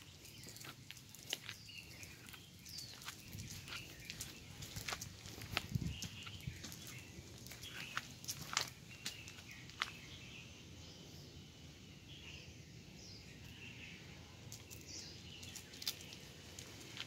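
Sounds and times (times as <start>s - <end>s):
distant bird chirps: 0.0s - 17.0s
faint outdoor background noise: 0.0s - 17.0s.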